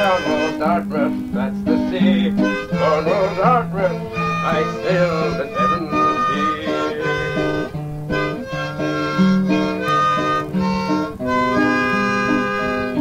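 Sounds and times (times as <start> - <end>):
acoustic guitar: 0.0 - 13.0
harmonica: 0.0 - 13.0.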